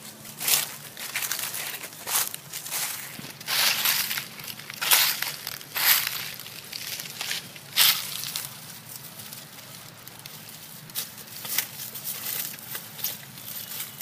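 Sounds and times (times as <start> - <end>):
crackling and crunching: 0.0 - 14.0.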